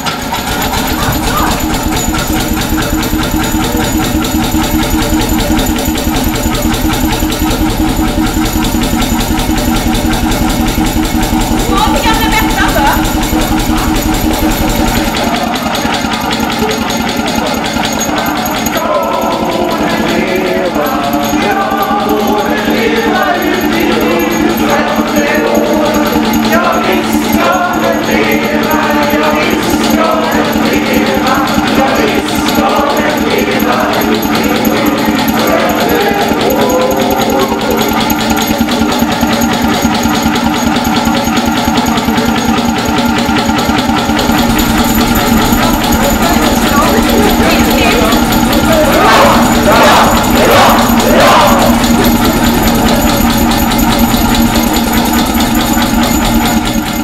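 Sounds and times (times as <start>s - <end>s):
people singing together: 0.0s - 40.8s, 43.0s - 57.0s
single-cylinder engine running: 0.0s - 57.0s.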